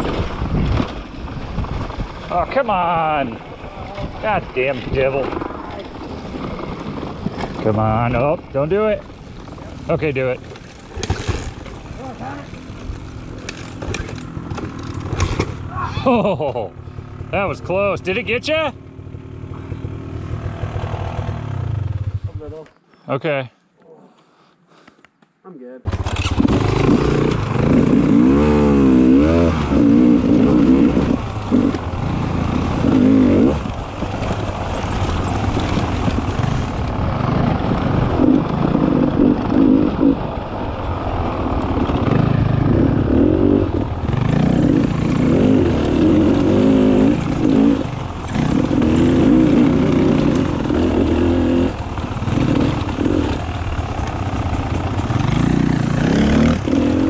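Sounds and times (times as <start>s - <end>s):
motorcycle engine revving: 0.0s - 22.6s, 25.9s - 57.0s.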